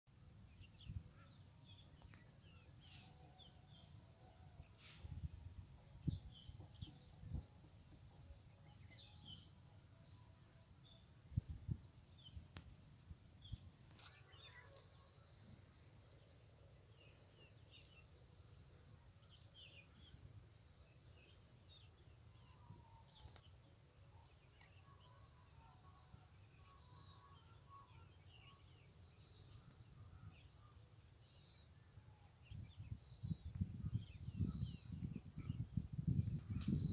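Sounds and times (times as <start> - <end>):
small birds chirping: 0.1 - 5.2, 5.9 - 36.9.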